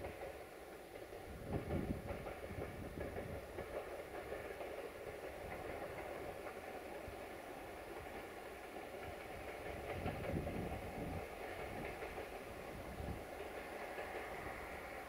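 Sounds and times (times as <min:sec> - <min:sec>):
distant train engine and wheels rumbling: 0:00.0 - 0:15.0.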